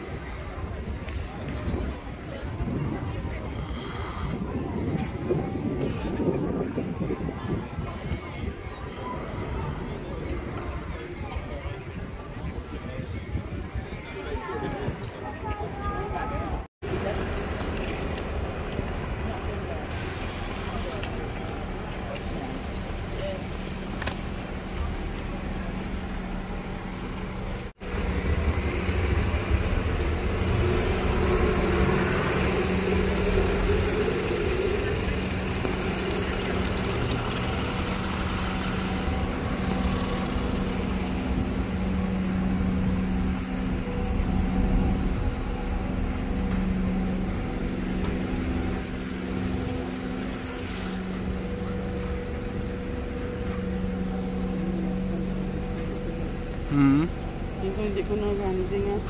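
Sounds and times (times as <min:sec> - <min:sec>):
bus engines humming: 0:00.0 - 0:59.0
vehicles passing: 0:00.0 - 0:59.0.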